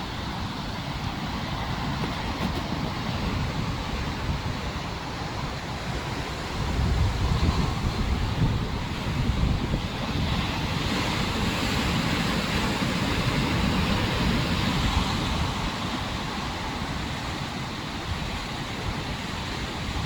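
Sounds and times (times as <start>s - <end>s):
sea surf washing against rocks: 0.0s - 20.0s
wind buffeting microphone: 0.0s - 20.0s.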